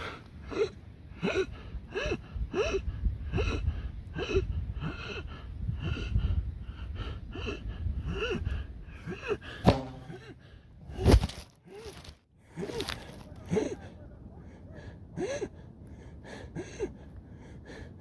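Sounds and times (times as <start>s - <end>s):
man panting and gasping: 0.0s - 18.0s.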